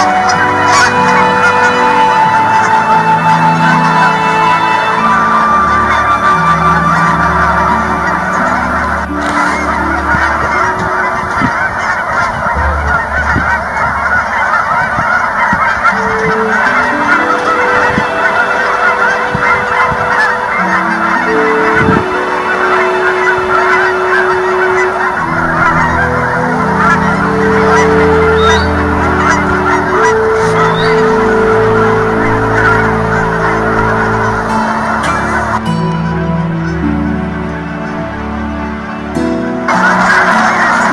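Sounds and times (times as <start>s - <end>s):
geese honking: 0.0s - 40.9s
low steady notes: 0.0s - 40.9s.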